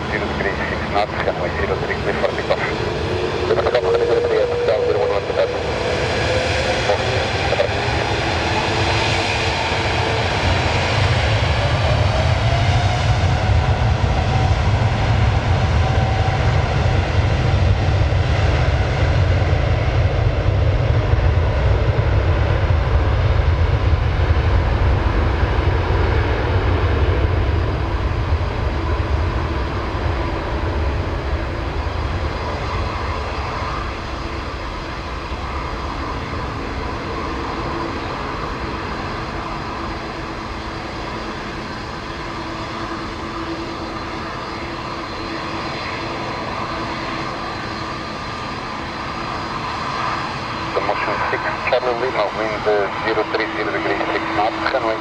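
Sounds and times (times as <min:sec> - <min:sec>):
jet engines at takeoff: 0:00.0 - 0:55.0.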